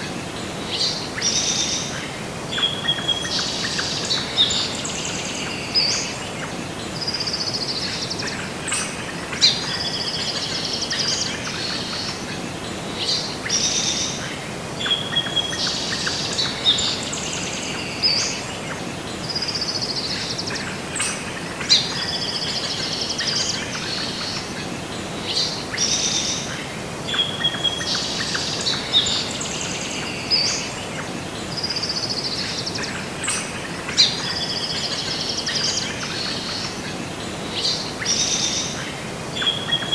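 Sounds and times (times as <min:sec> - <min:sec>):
songbirds chirping and singing: 0:00.0 - 0:39.9
steady background hiss: 0:00.0 - 0:39.9.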